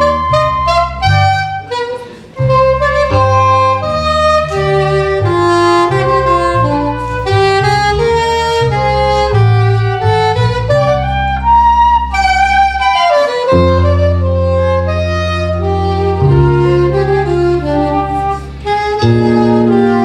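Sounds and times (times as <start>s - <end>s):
instrumental ensemble playing: 0.0s - 20.0s.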